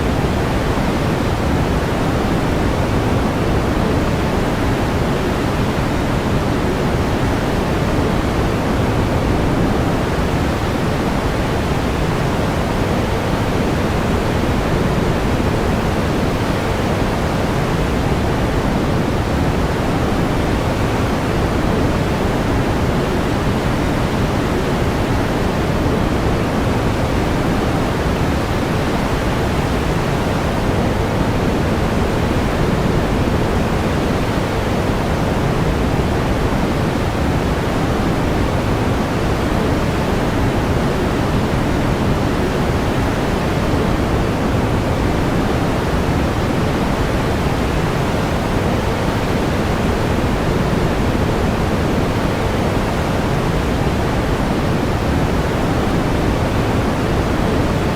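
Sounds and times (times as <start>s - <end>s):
pink noise hiss: 0.0s - 57.9s.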